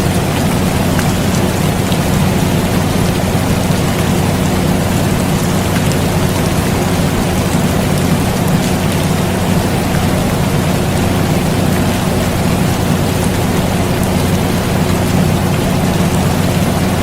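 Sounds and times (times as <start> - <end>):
air conditioner humming: 0.0 - 17.0
steady rain falling: 0.0 - 17.0.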